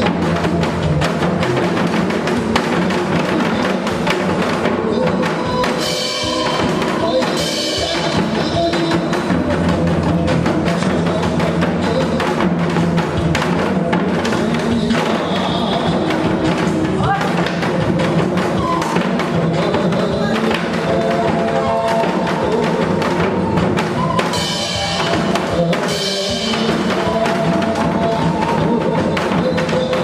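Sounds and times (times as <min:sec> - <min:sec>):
backing music: 0:00.0 - 0:30.0
hourglass drums playing: 0:00.0 - 0:30.0.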